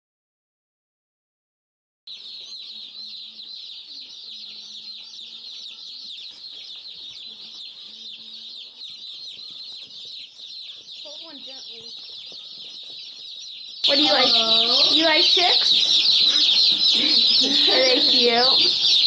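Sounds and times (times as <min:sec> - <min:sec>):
chicks peeping: 0:02.1 - 0:19.0.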